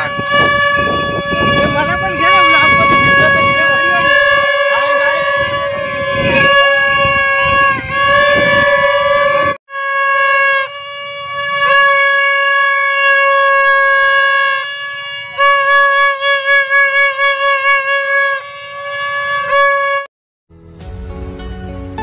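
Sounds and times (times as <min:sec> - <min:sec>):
toy trumpet blasts and toots: 0:00.0 - 0:20.1.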